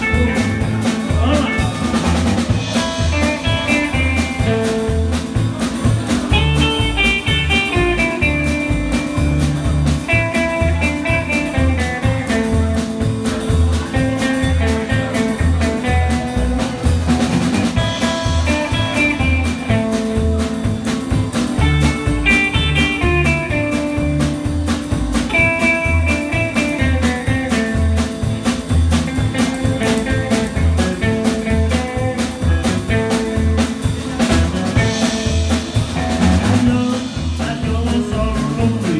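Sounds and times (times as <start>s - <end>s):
electric guitar lead lines: 0.0s - 37.8s
drum kit beat: 0.0s - 38.9s
upright double bass: 0.0s - 38.9s.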